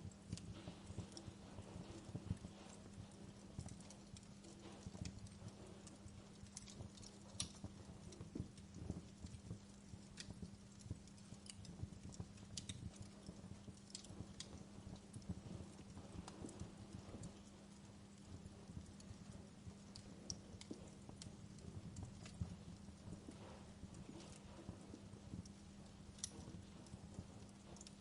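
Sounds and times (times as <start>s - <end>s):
faint low hum: 0.0s - 28.0s
wood fire crackling: 0.0s - 28.0s.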